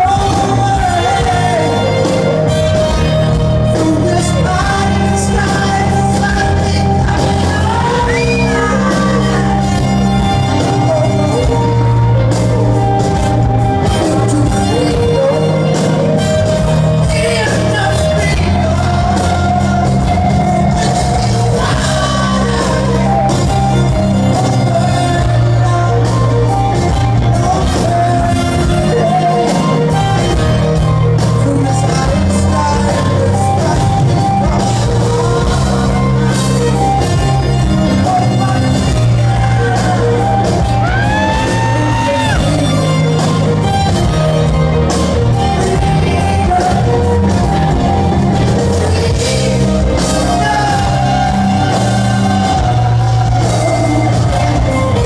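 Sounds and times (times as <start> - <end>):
live band playing ballad: 0.0 - 55.0.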